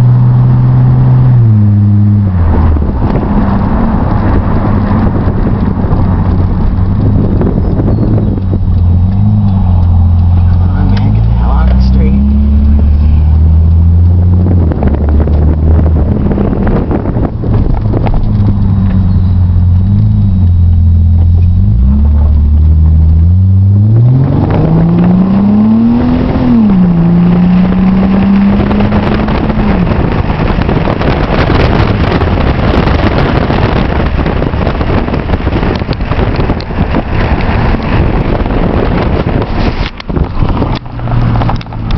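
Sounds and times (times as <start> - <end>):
car engine accelerating: 0.0 - 41.9
wind and road noise: 0.0 - 41.9.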